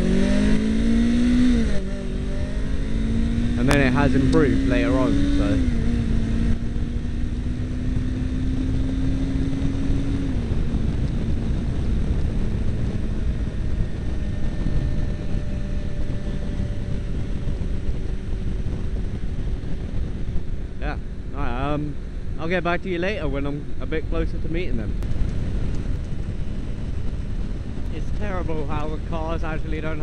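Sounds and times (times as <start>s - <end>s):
motorcycle engine running: 0.0s - 30.0s
wind rumble on microphone: 0.0s - 30.0s.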